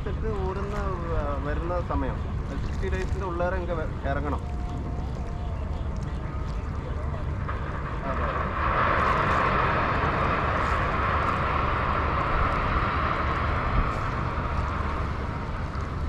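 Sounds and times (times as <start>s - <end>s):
engine drone: 0.0s - 16.0s
low rumbling wind noise: 0.0s - 16.0s.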